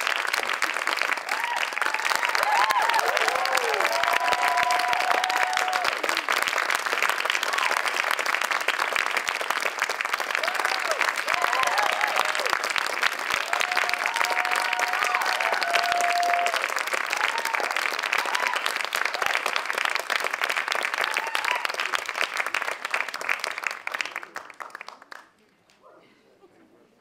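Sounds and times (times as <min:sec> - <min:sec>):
audience applauding: 0:00.0 - 0:25.4.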